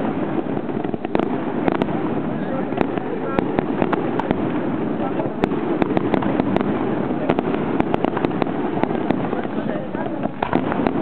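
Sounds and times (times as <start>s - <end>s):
continuous rumbling: 0.0s - 11.0s
fireworks cracks and bangs: 0.0s - 11.0s.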